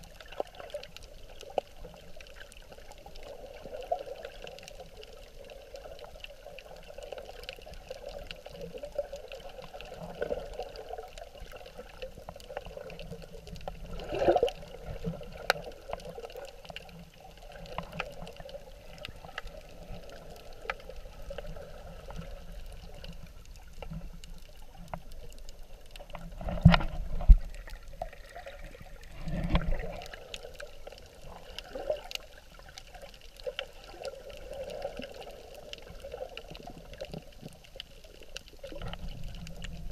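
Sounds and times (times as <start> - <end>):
muffled underwater water wash: 0.0 - 39.9.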